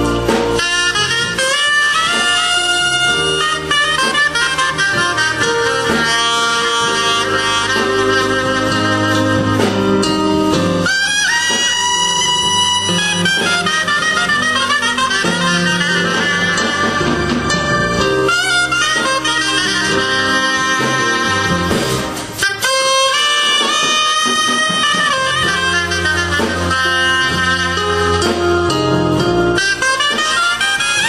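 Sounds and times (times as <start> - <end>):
bass and backing band: 0.0 - 31.0
trumpet melody: 0.0 - 31.0.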